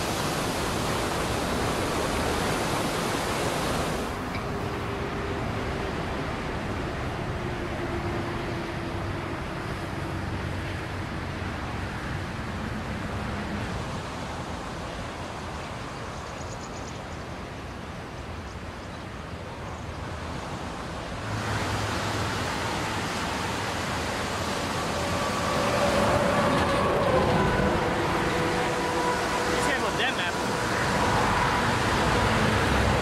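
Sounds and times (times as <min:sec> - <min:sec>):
floodwater rushing: 0:00.0 - 0:16.1, 0:19.4 - 0:33.0.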